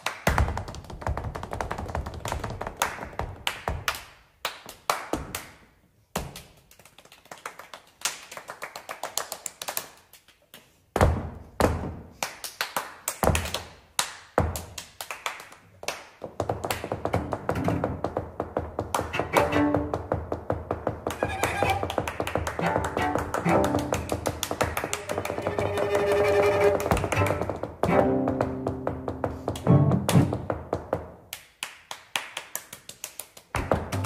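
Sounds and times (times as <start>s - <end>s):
hand claps slaps and taps: 0.0s - 17.5s, 21.1s - 28.0s, 29.1s - 34.0s.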